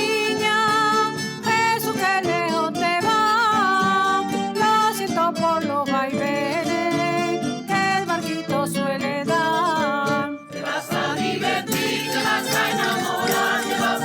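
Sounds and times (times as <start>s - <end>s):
person singing folk song: 0.0s - 14.0s
plucked acoustic guitar: 0.0s - 14.0s.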